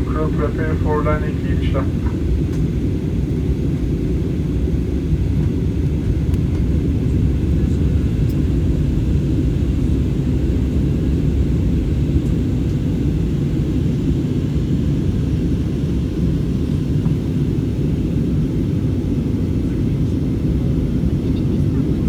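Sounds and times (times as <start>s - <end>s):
airliner cabin engine rumble: 0.0s - 22.0s.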